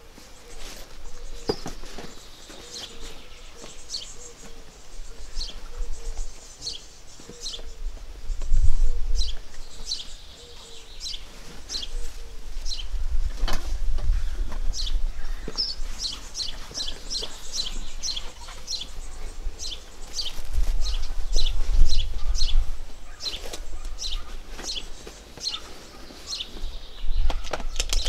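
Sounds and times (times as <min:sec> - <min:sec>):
bird chirping: 0:00.0 - 0:13.0, 0:14.1 - 0:28.0.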